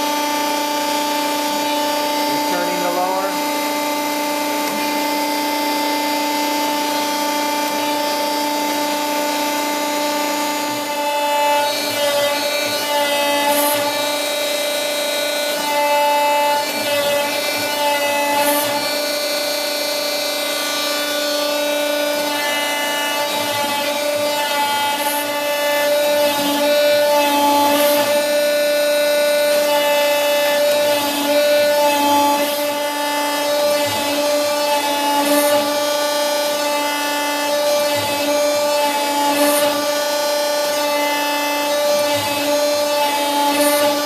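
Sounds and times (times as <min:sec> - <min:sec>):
hydraulic pump whining: 0:00.0 - 0:44.0.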